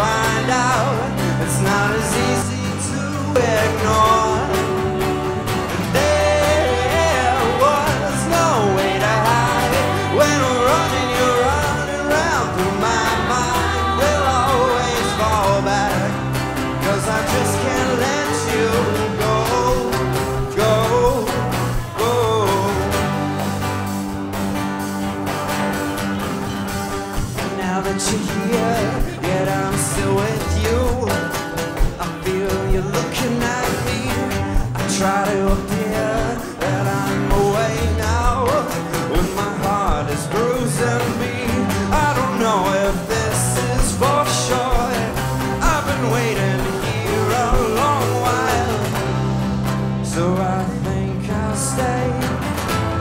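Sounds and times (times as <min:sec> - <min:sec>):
drums: 0:00.0 - 0:53.0
electric bass: 0:00.0 - 0:53.0
electric guitar: 0:00.0 - 0:53.0
strummed acoustic guitar: 0:00.0 - 0:53.0.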